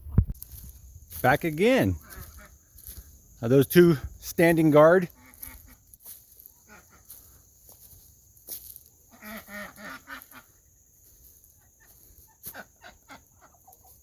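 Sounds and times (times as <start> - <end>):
ducks calling softly: 0.5 - 14.0.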